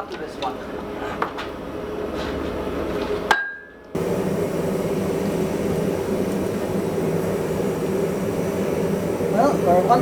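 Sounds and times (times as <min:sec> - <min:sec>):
forge shop background noise: 0:00.0 - 0:10.0.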